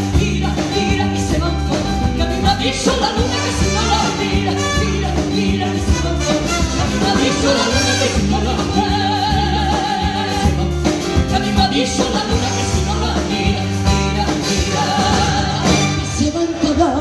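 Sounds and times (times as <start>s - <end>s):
band with drums: 0.0s - 17.0s
man and woman singing duet: 0.0s - 17.0s.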